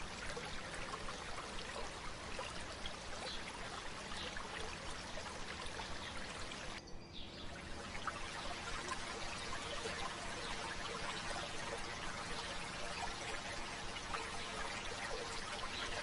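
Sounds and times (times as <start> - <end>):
stream babbling: 0.0 - 6.8, 7.4 - 16.0.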